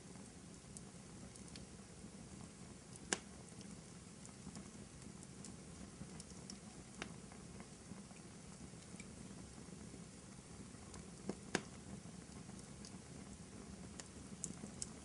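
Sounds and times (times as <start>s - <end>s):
wood fire crackling: 0.0s - 15.0s
sharp fire pops: 0.1s - 15.0s.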